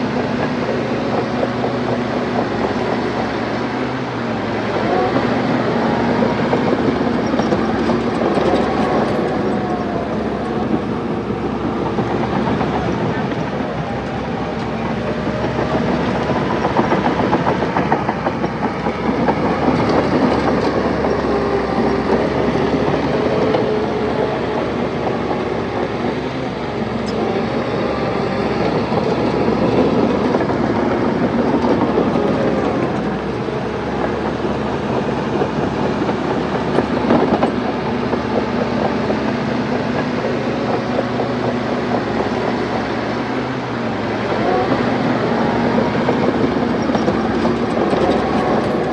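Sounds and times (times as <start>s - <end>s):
bulldozer diesel engine: 0.0s - 48.9s
steel tracks clanking: 0.0s - 48.9s.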